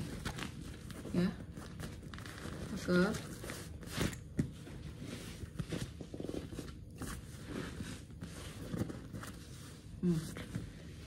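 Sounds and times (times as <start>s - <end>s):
fabric rustling: 0.0s - 11.0s.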